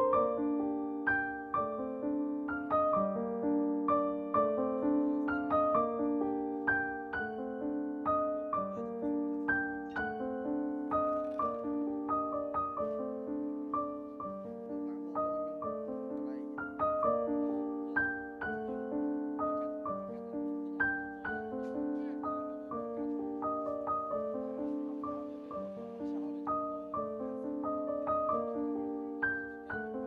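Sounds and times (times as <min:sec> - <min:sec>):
gentle piano melody: 0:00.0 - 0:30.0.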